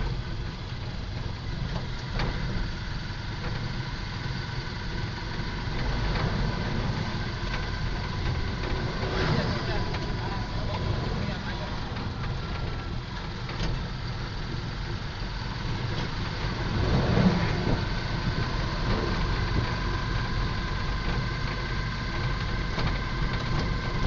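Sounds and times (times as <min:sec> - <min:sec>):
engine and road rumble in cabin: 0:00.0 - 0:24.0
faint steady whine: 0:00.0 - 0:24.0.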